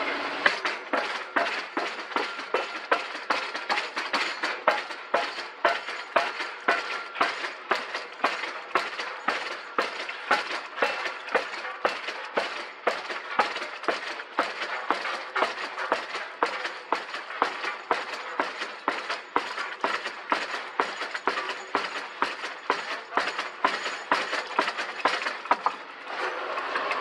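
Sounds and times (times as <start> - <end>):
pile hammer striking: 0.4 - 25.9.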